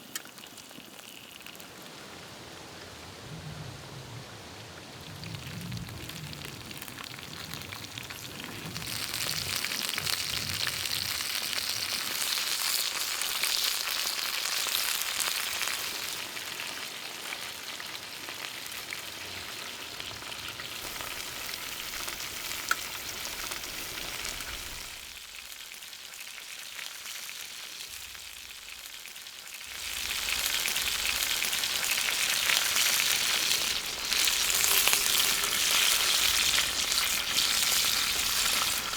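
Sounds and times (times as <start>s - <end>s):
sausages sizzling in a wok: 6.2s - 38.9s.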